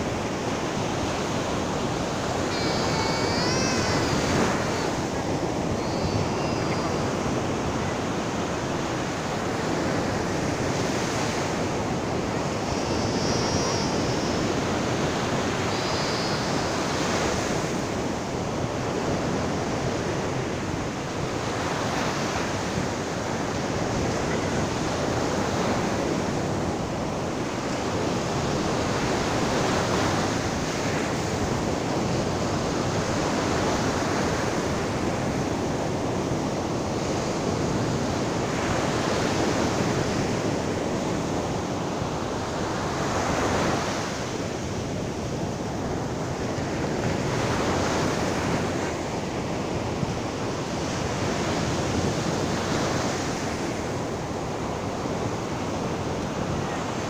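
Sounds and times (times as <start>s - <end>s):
surf washing up sandy beach: 0.0s - 57.0s.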